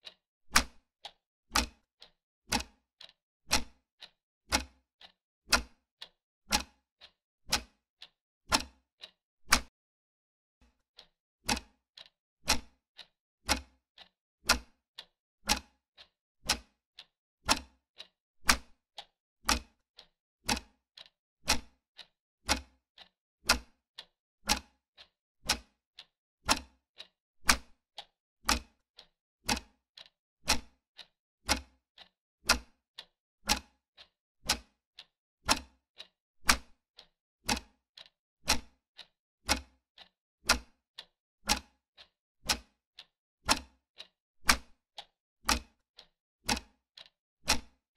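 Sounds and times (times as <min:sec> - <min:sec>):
clock ticking: 0:00.0 - 0:09.7, 0:10.7 - 0:47.8.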